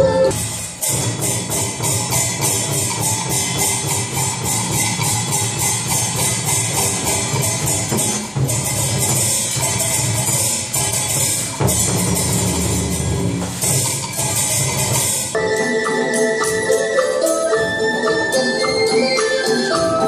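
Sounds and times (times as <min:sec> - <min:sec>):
drums: 0:00.0 - 0:20.0
high-pitched percussion clatter: 0:00.0 - 0:20.0.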